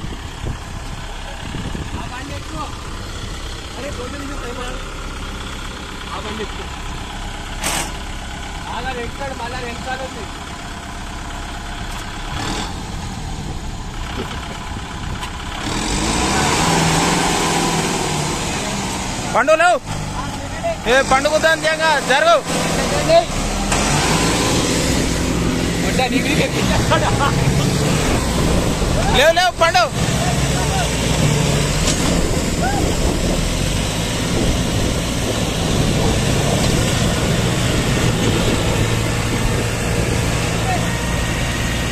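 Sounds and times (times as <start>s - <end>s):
tractor diesel engine revving: 0.0s - 41.9s.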